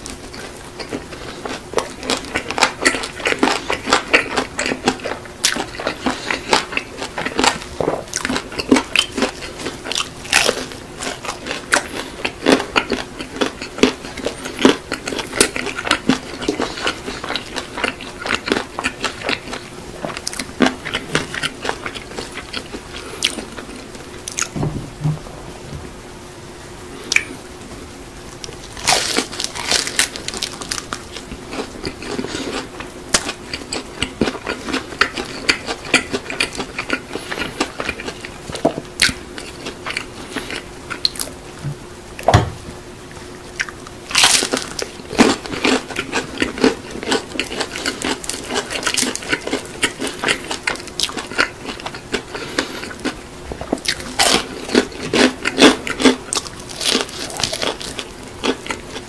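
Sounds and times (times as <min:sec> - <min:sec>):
crunching and chewing fried chicken: 0:00.0 - 0:25.2, 0:28.2 - 0:41.6, 0:43.0 - 0:59.0.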